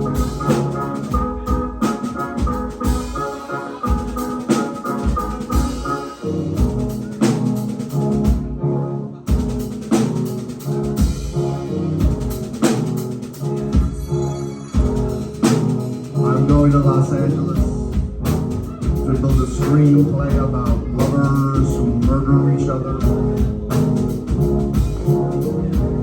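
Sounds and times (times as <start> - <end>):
drum kit beat: 0.0 - 8.6, 9.3 - 14.2, 14.8 - 26.0
bass: 0.0 - 26.0
sampler keyboards: 0.0 - 26.0.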